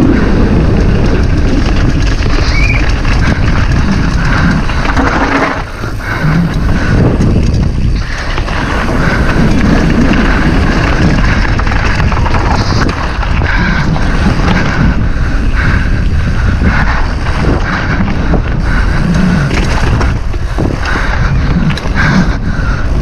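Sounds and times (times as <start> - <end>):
mountain bike rattling over trail: 0.0 - 23.0
wind rushing over microphone: 0.0 - 23.0.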